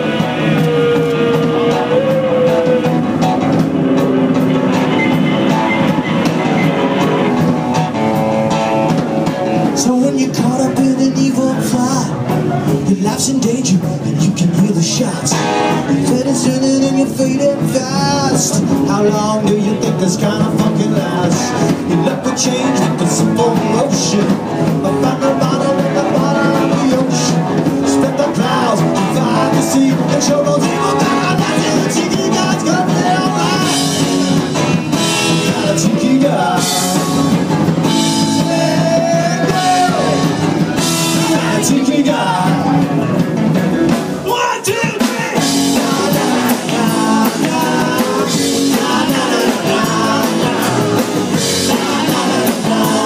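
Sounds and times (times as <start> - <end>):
lead singer singing: 0.0 - 7.3, 9.6 - 43.3, 43.9 - 53.0
drum kit: 0.0 - 53.0
electric guitars: 0.0 - 53.0.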